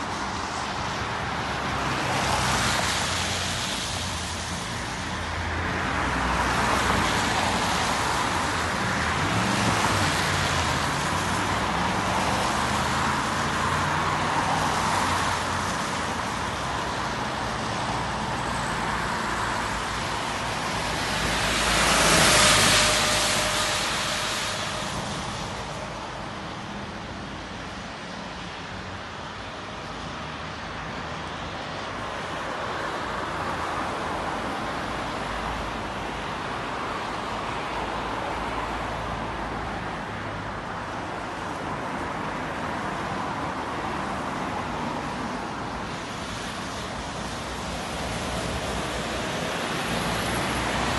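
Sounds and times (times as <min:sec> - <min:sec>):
passing car and bus engines: 0:00.0 - 0:50.9
tyres hissing on wet road: 0:00.0 - 0:50.9.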